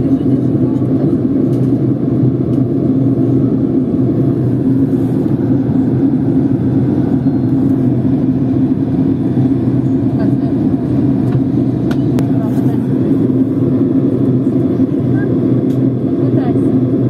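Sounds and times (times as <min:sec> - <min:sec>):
jet engine and airflow drone: 0:00.0 - 0:17.0
steady cabin hum: 0:00.0 - 0:17.0.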